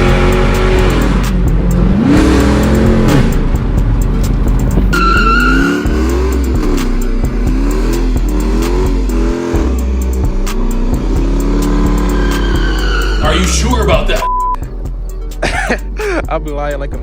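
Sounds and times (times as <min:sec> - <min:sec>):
car engine revving: 0:00.0 - 0:16.0
background music: 0:00.0 - 0:17.0.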